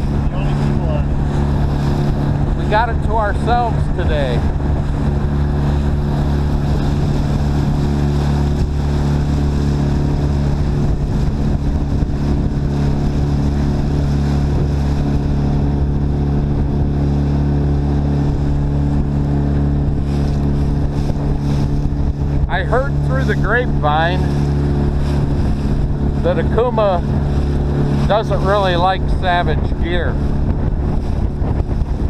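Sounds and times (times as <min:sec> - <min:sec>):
outboard motor running: 0:00.0 - 0:32.0
water rushing along hull: 0:00.0 - 0:32.0.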